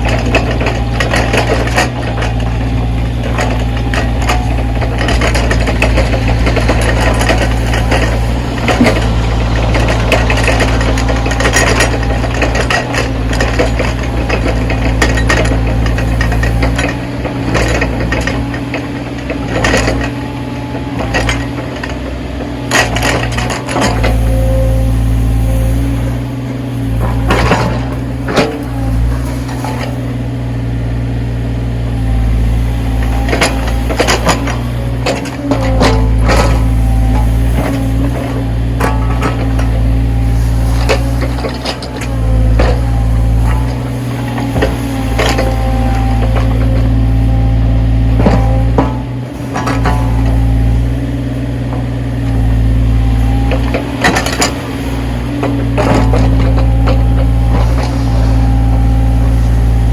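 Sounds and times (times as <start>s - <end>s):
machine clanks and knocks: 0.0s - 31.3s, 32.1s - 59.9s
diesel engine running: 0.0s - 59.9s.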